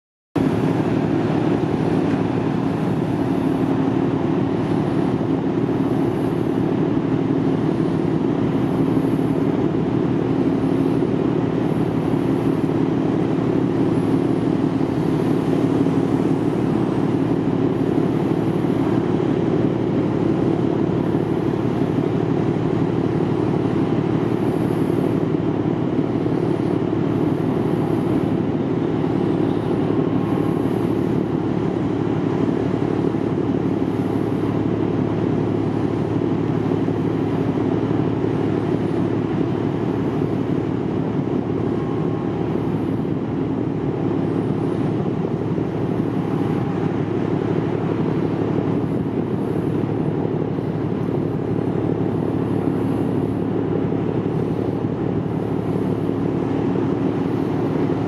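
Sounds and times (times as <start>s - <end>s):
ship diesel machinery drone: 0.4s - 58.0s.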